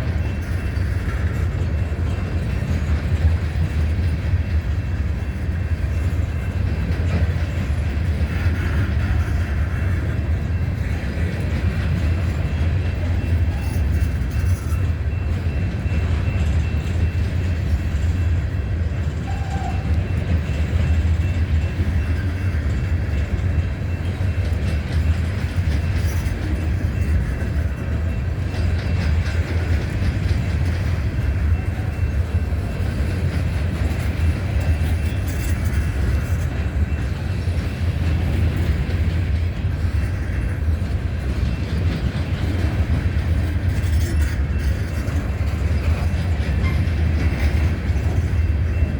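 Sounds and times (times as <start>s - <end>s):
freight train wheels rumbling on rail: 0.0s - 48.9s.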